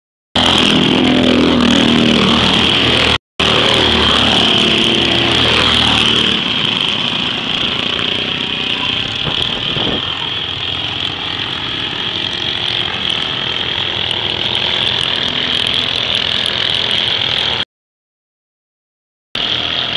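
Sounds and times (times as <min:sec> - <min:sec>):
racing kart engines buzzing: 0:00.4 - 0:17.6, 0:19.4 - 0:19.9.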